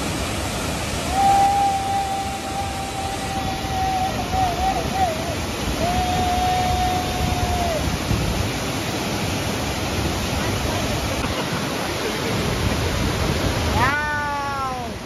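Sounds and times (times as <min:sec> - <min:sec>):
waterfall rushing onto rocks: 0:00.0 - 0:15.0.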